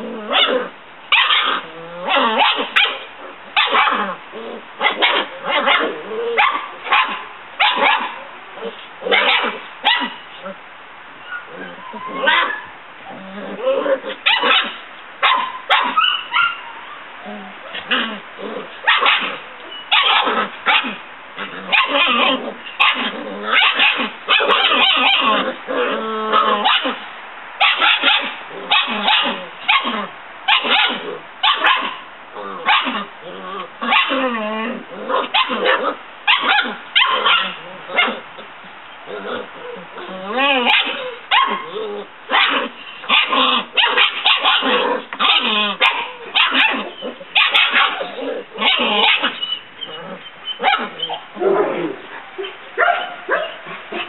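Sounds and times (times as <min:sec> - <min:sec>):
puppies yipping and barking: 0:00.0 - 0:04.2, 0:04.8 - 0:10.5, 0:11.2 - 0:17.1, 0:17.7 - 0:27.0, 0:27.6 - 0:54.0
puppies growling: 0:00.0 - 0:10.6, 0:11.2 - 0:14.8, 0:15.5 - 0:54.0
puppy drawn-out cry: 0:00.0 - 0:10.6, 0:11.2 - 0:54.0.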